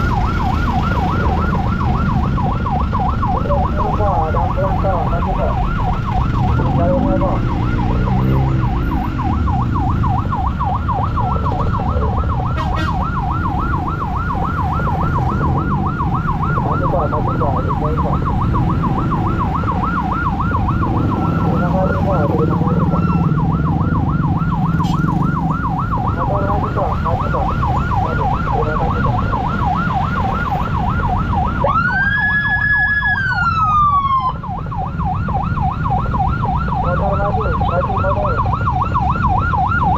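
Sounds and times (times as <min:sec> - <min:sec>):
emergency siren warbling: 0:00.0 - 0:39.9
engines and traffic rumble: 0:00.0 - 0:39.9.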